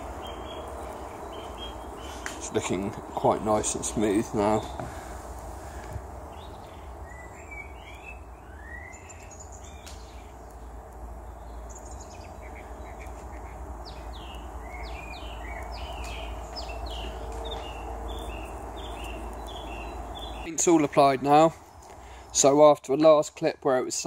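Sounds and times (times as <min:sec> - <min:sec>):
steady low rumble: 0:00.0 - 0:22.4
small birds chirping: 0:00.0 - 0:24.0.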